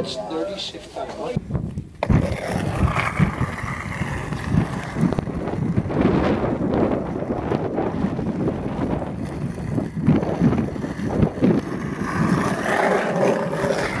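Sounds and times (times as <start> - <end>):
skateboard wheels rolling on pavement: 0.1 - 14.0
wind buffeting microphone: 1.3 - 14.0.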